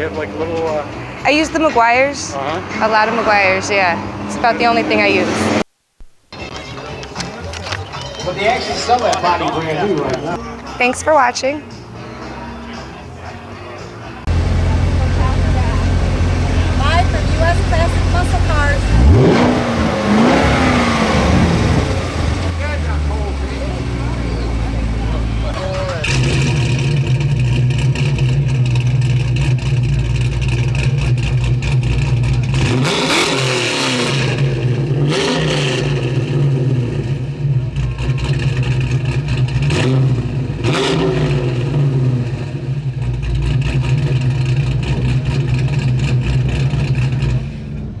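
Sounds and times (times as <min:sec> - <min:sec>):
car engine revving: 0:00.0 - 0:05.7, 0:06.4 - 0:48.0.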